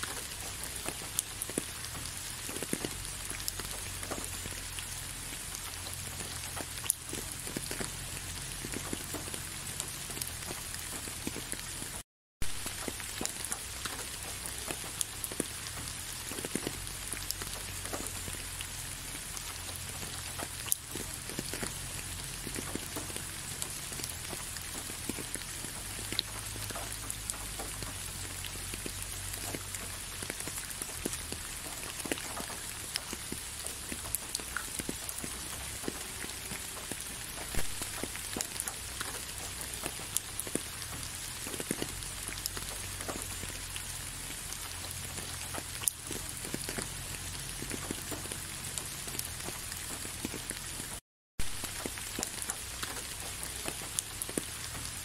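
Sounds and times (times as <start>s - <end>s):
raindrops ticking: 0.0s - 55.0s
steady rain falling: 0.0s - 55.0s.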